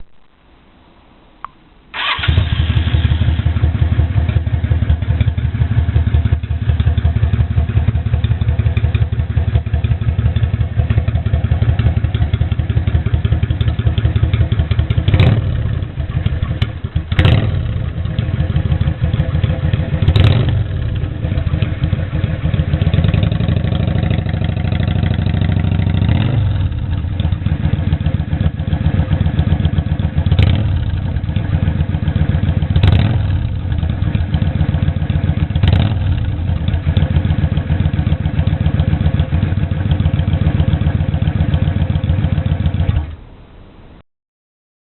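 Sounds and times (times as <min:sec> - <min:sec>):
motorcycle engine idling and revving: 0:02.0 - 0:43.2.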